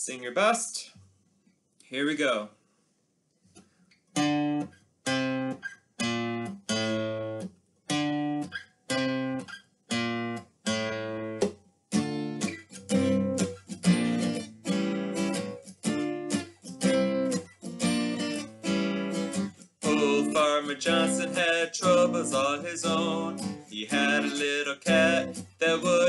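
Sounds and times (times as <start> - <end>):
acoustic guitar strumming: 4.2 - 26.0.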